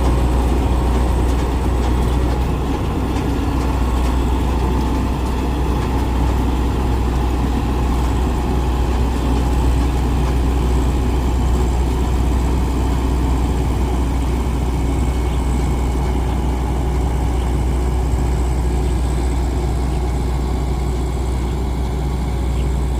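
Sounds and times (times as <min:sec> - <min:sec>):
combine harvester engine hum: 0:00.0 - 0:22.9.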